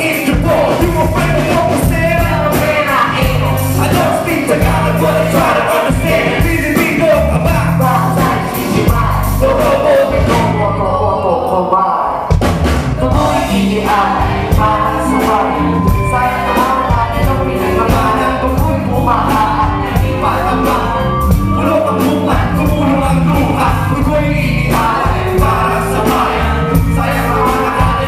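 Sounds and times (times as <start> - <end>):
drums and bass: 0.0 - 11.0, 12.3 - 28.0
man and woman singing together: 0.0 - 12.2, 13.0 - 28.0.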